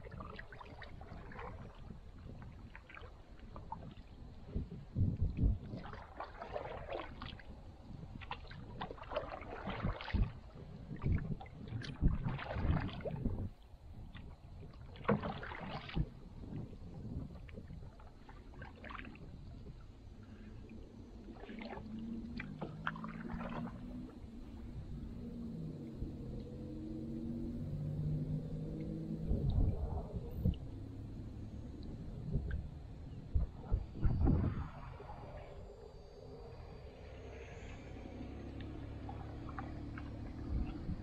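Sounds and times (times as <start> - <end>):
paddle splashing water: 0.0 - 41.0.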